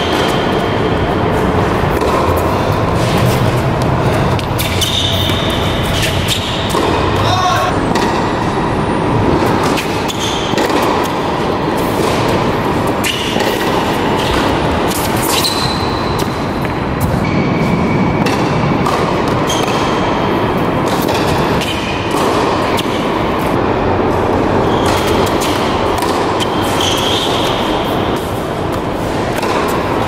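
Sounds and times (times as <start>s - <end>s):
sneaker squeaks: 0.0s - 8.0s, 9.4s - 12.2s, 12.9s - 23.0s, 24.4s - 29.5s
loud rushing noise: 0.0s - 30.0s
racket hitting ball: 0.0s - 30.0s.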